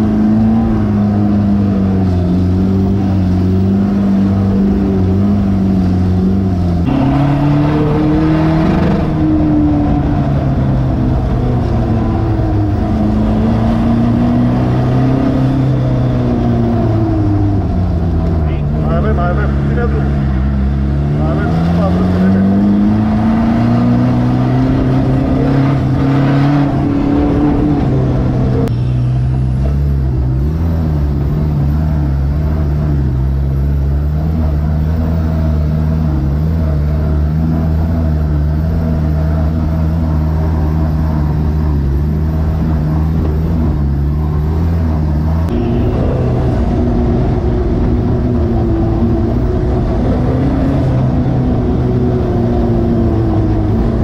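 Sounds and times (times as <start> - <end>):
off-road engine revving: 0.0 - 54.0.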